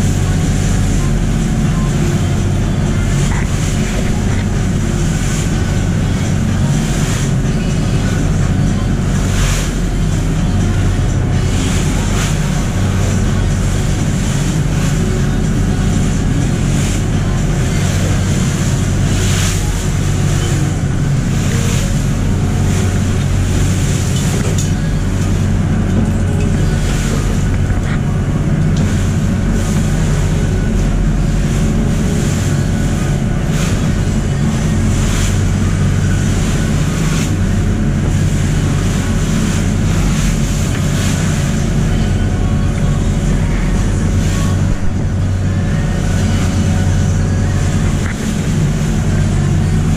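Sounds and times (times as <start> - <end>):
boat engine running: 0.0 - 49.9
waves splashing against hull: 0.0 - 49.9.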